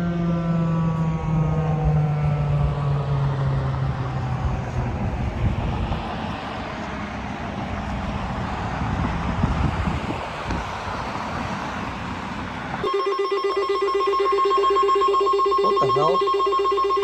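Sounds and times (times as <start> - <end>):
warning siren winding down: 0.0 - 11.0, 12.7 - 17.0.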